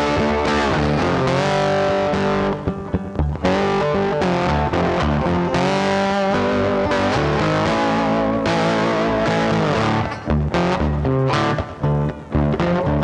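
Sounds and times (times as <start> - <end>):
distorted electric guitar music: 0.0 - 13.0.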